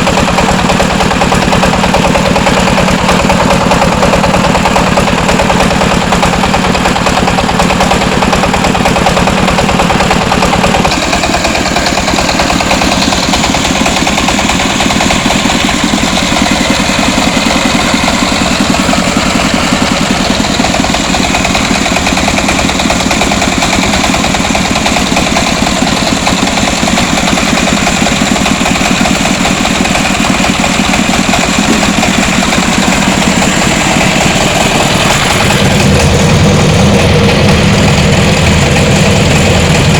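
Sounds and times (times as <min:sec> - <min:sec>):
rice huller engine running: 0:00.0 - 0:39.9.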